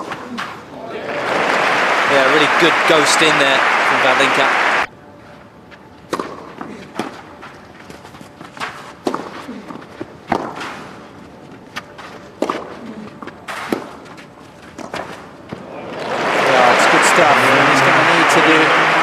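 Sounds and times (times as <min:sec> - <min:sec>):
quiet crowd: 0:00.0 - 0:19.0.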